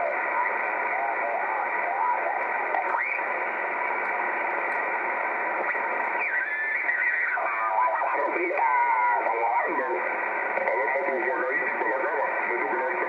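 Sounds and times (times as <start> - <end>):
garbled radio voices: 0.0 - 13.0
radio static hiss: 0.0 - 13.0.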